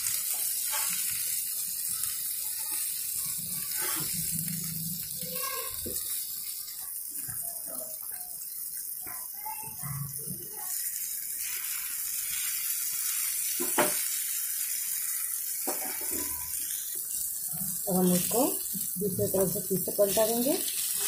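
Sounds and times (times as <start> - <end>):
oil sizzling: 0.0 - 21.0.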